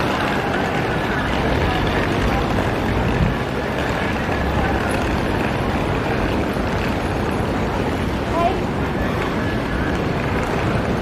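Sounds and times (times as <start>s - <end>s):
city street noise: 0.0s - 11.0s
wind rumble on microphone: 0.0s - 11.0s.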